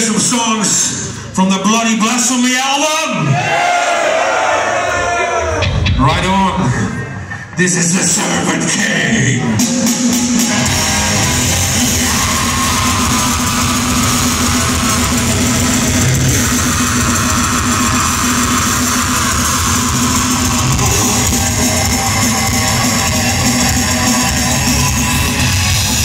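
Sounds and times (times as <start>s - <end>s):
death metal band playing: 4.7s - 26.0s.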